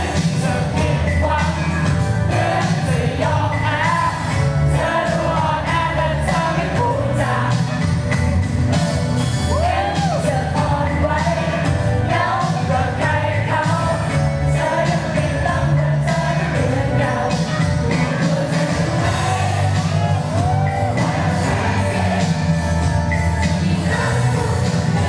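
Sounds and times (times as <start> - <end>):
backing track with beat and bass: 0.0 - 25.0
girls singing pop song: 0.0 - 25.0.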